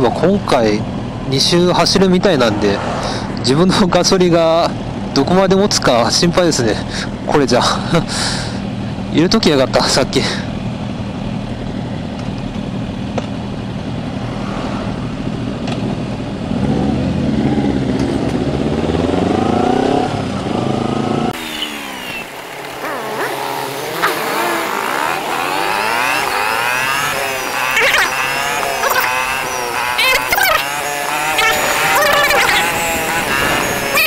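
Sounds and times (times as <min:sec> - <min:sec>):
motorcycle engines idling and revving: 0:00.0 - 0:34.0.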